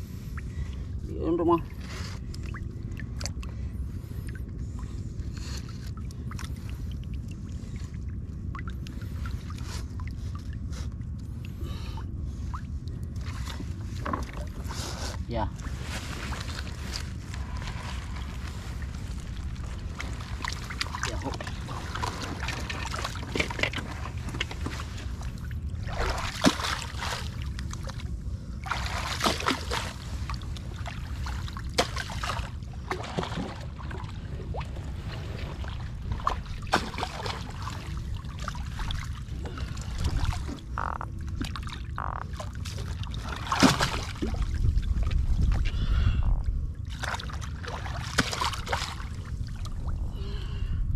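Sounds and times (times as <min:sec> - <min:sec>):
water splashing around boat: 0:00.0 - 0:50.4
steady low rumble: 0:00.0 - 0:50.9.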